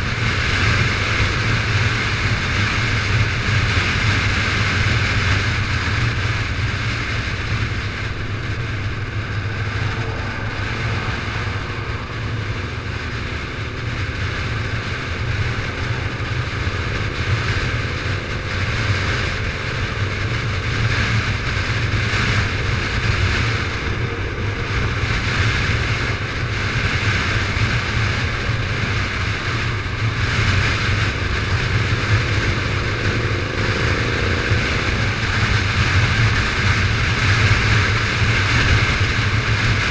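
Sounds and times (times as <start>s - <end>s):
motorcycle engine hum: 0.0s - 39.9s
wind rushing: 0.0s - 39.9s.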